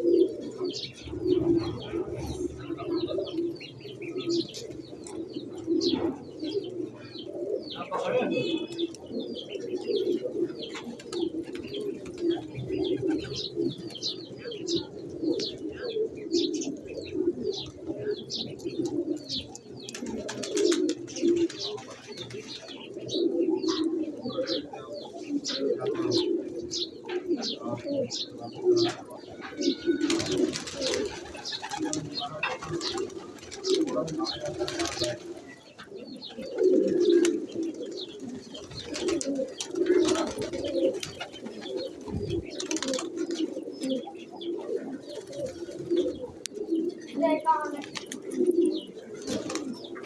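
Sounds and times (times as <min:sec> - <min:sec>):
pigeons cooing: 0:00.0 - 0:50.0.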